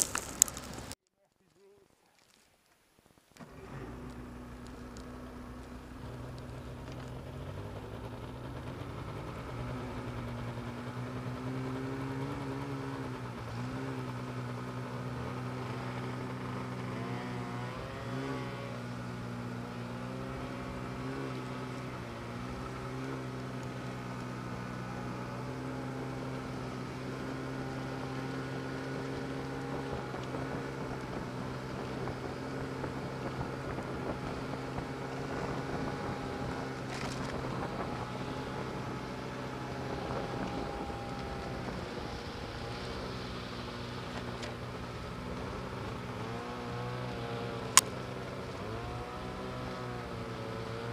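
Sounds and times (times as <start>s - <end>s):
snowmobile engine running: 0.0s - 1.0s, 3.4s - 50.9s.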